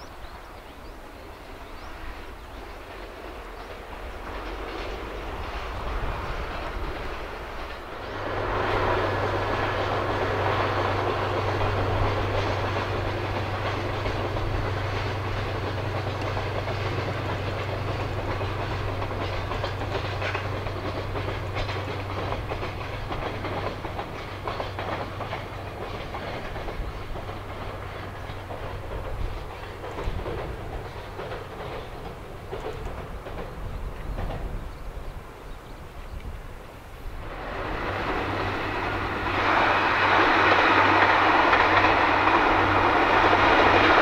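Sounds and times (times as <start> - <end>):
wheels clicking over rail joints: 1.5 - 44.0.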